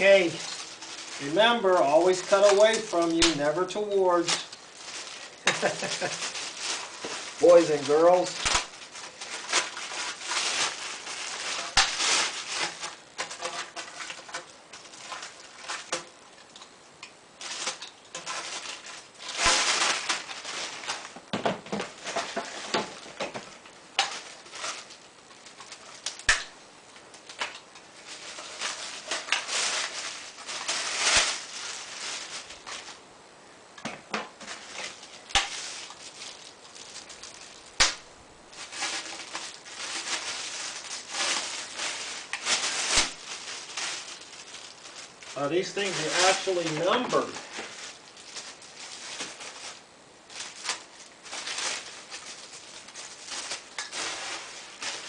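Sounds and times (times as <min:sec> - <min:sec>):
plastic and cardboard rustling: 0:00.0 - 0:33.1, 0:33.8 - 0:55.0.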